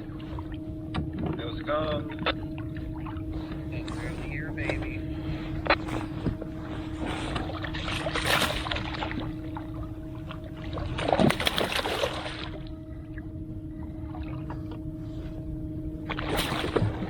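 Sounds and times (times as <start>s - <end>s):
water splashing against kayak: 0.0s - 15.3s, 16.0s - 17.0s
steady low hum: 0.0s - 17.0s.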